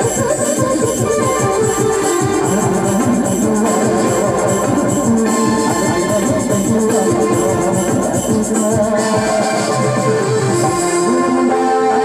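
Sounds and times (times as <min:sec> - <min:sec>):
steady drum beat: 0:00.0 - 0:11.6
electronic keyboard melody: 0:00.0 - 0:12.0.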